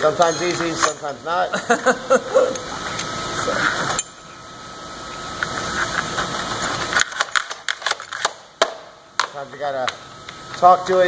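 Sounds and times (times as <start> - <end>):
steady machine noise: 0.0 - 11.0.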